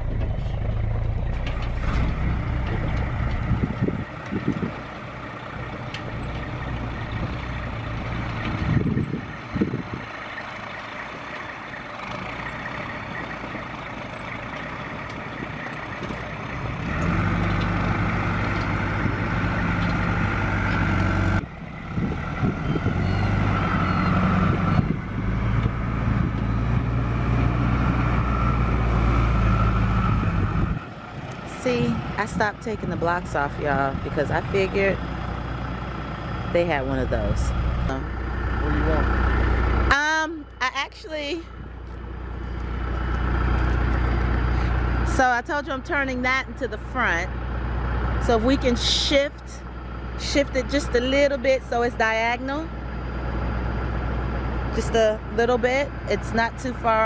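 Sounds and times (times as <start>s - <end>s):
diesel truck engine under load: 0.0s - 57.0s.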